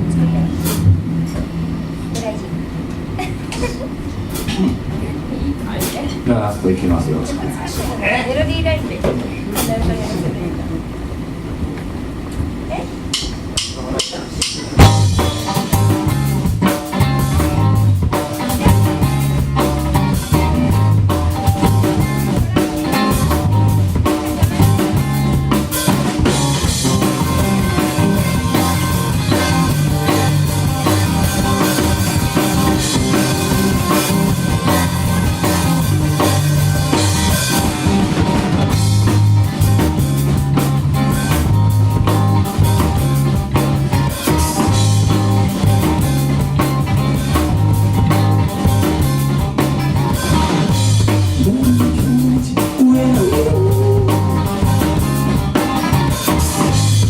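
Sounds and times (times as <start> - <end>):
drum kit beat: 0.0 - 4.9, 13.0 - 57.0
guitar and bass playing: 0.0 - 5.7, 14.6 - 57.0.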